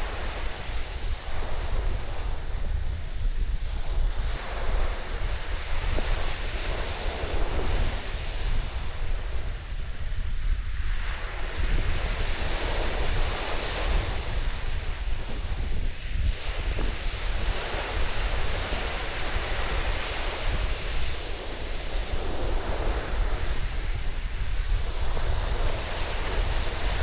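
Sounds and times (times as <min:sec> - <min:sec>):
surf washing onto beach: 0:00.0 - 0:27.0
wind buffeting microphone: 0:00.0 - 0:27.0.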